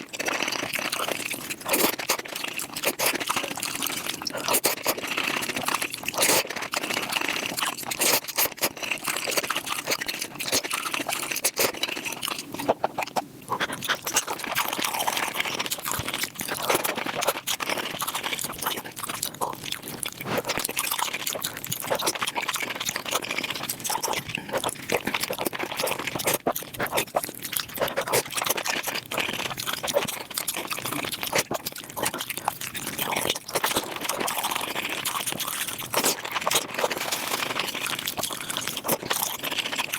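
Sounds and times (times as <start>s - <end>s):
rapid chewing and crunching: 0.0s - 39.9s.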